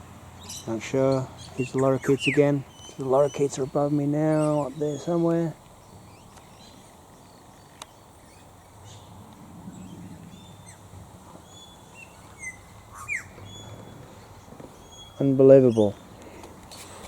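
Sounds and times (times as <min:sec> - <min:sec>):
distant birds chirping and whistling: 0:00.0 - 0:17.0
loud sweeping bird call: 0:00.4 - 0:16.2.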